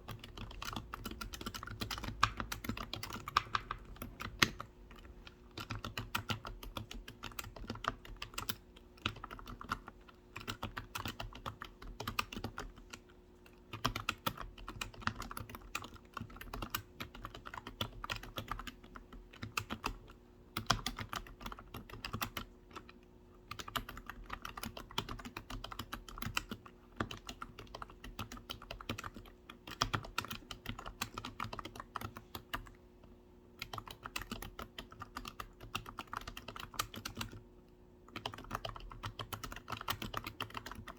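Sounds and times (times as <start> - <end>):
typing on computer keyboard: 0.0 - 32.8, 33.6 - 37.5, 38.1 - 40.9.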